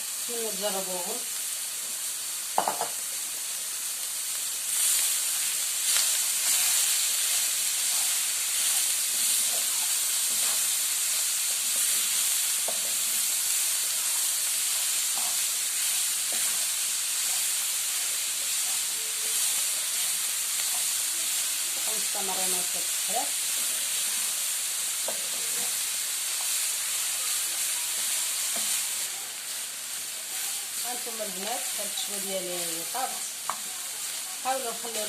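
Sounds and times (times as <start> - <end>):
vegetables sizzling in a pan: 0.0 - 35.0.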